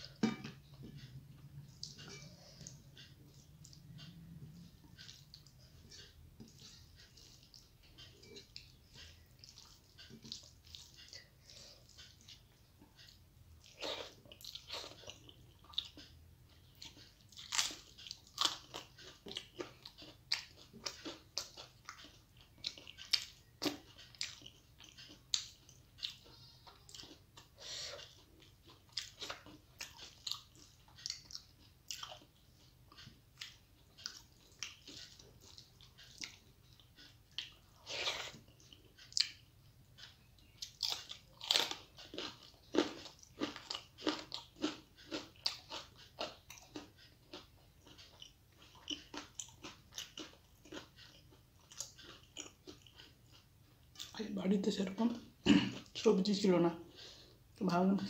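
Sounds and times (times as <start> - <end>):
chewing with wet mouth smacks: 1.6 - 54.2.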